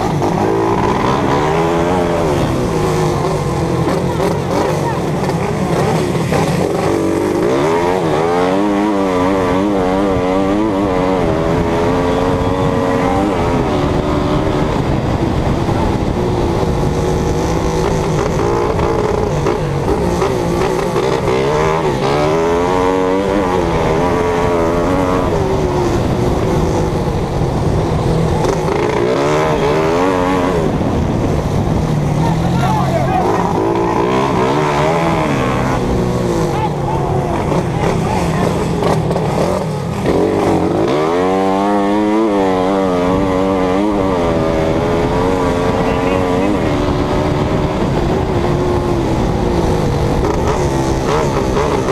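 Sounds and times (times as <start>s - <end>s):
racing engine running hard: 0.0s - 51.9s
steady rushing noise: 0.0s - 51.9s.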